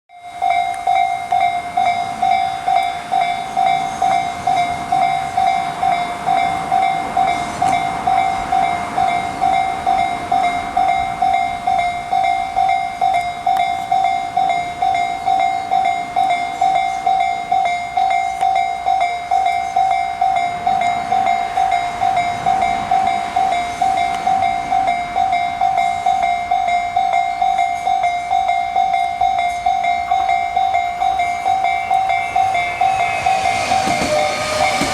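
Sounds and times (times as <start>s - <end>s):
electric train running rumble: 0.1s - 34.9s
level crossing bell ringing: 0.1s - 34.9s.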